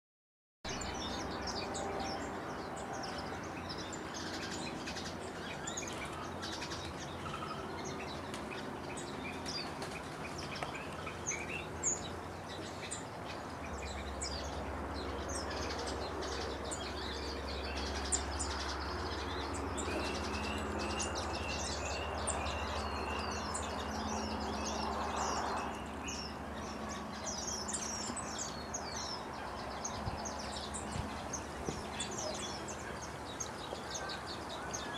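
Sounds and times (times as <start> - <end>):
finches chirping and twittering: 0.7 - 34.9.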